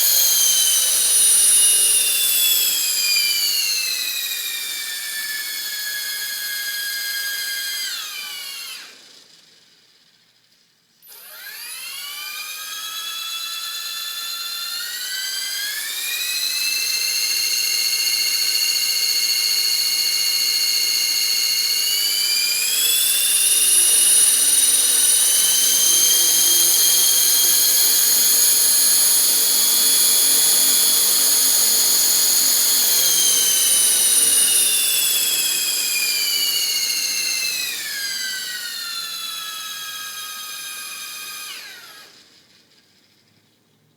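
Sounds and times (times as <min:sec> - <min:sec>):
rc helicopter motor whining: 0:00.0 - 0:09.9, 0:11.0 - 0:43.1.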